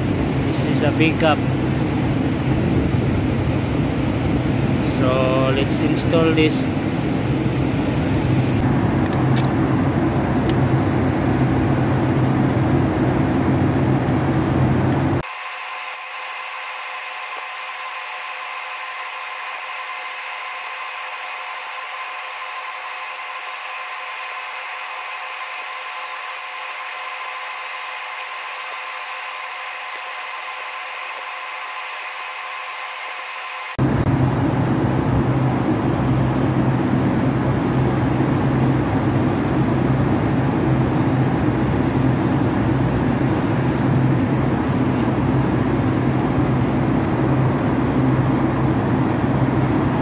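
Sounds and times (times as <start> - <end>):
thin steady whir: 0.0 - 50.0.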